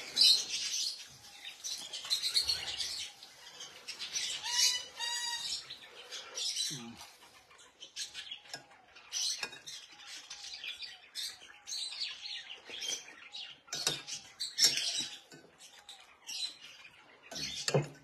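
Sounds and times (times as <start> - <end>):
caged birds chirping: 0.0 - 18.0.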